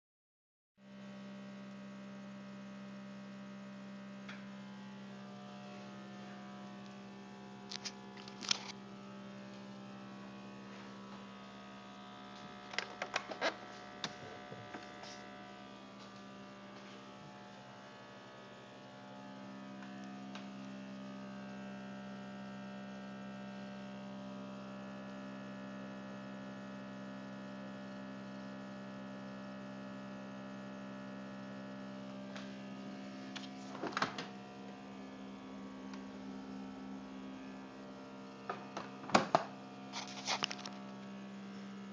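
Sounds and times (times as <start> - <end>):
refrigerator humming: 0.9 - 41.9.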